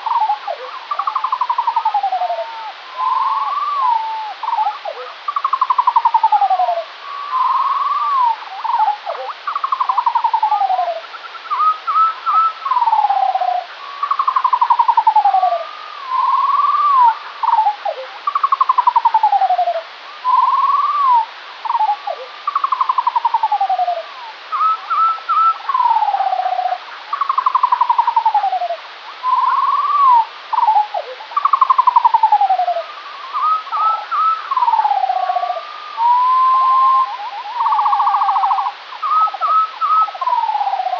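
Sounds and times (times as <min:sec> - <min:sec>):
slowed bird song: 0:00.0 - 0:40.9
steady hiss: 0:00.0 - 0:40.9.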